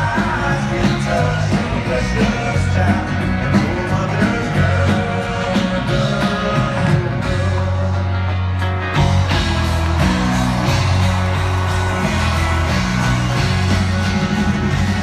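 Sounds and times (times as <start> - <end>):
acoustic guitar: 0.0 - 15.0
country band playing live: 0.0 - 15.0
sustained bass notes: 0.0 - 15.0.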